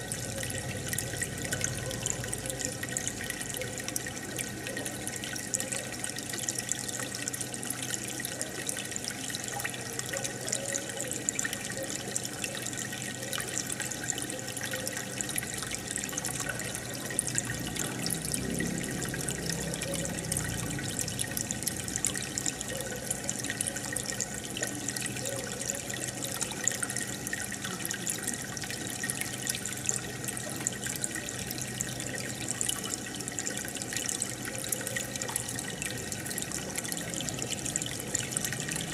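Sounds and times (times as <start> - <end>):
aquarium water bubbling: 0.0 - 38.9.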